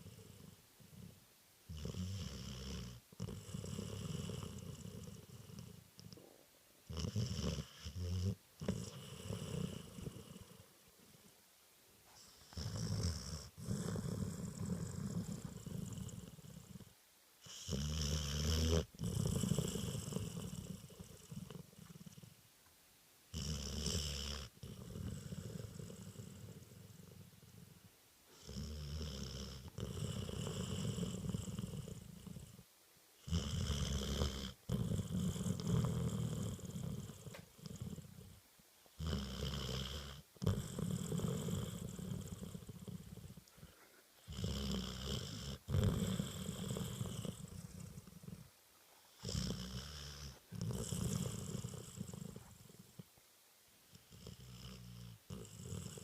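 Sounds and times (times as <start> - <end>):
puppy snoring: 0.0 - 11.4, 12.1 - 22.4, 23.3 - 53.2, 53.9 - 56.0.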